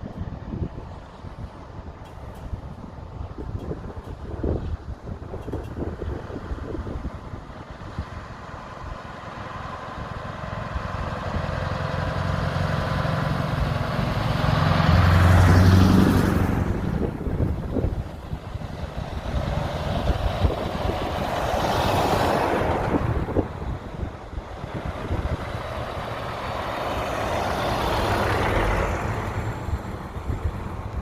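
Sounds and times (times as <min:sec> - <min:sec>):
vehicle approaching: 0:00.0 - 0:31.0
truck diesel engine passing: 0:05.4 - 0:31.0.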